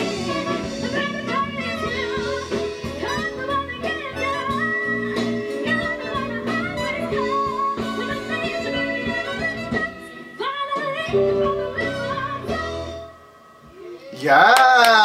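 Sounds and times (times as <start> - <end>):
live band with strings: 0.0 - 13.1
woman singing: 0.0 - 14.2.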